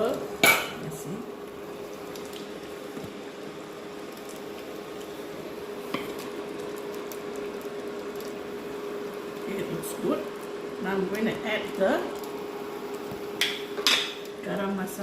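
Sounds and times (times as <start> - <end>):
curry bubbling in a pot: 0.0 - 14.5
low steady hum: 0.0 - 15.0.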